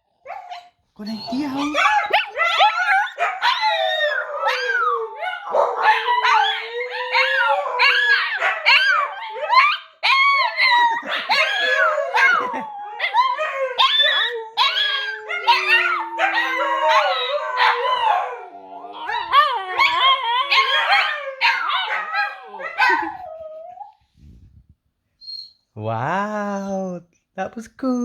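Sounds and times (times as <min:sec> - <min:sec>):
dogs howling and yipping: 0:00.1 - 0:24.0
dog long steady howls: 0:01.1 - 0:24.0.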